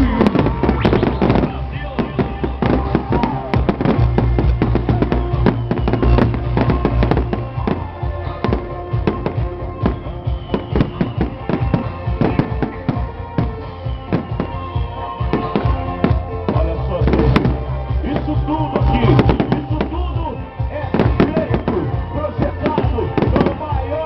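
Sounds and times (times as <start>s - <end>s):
fireworks bangs and crackles: 0.0s - 24.0s
loud music with heavy bass: 0.0s - 24.0s.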